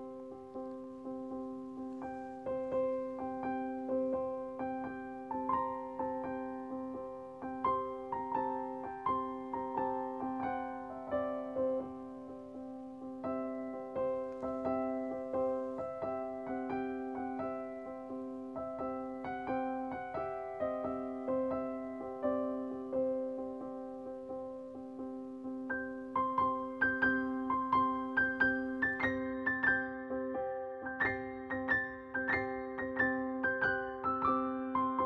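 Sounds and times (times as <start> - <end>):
gentle piano piece: 0.0 - 35.0.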